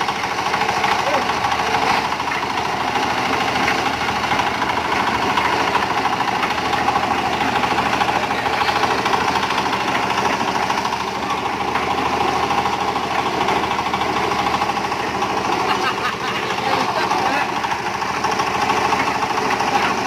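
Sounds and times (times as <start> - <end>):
concrete mixer knocking: 0.0 - 20.0.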